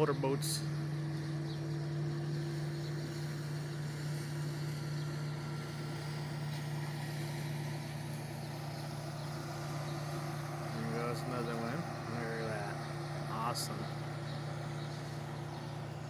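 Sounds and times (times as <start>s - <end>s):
outboard motors humming: 0.0s - 16.0s.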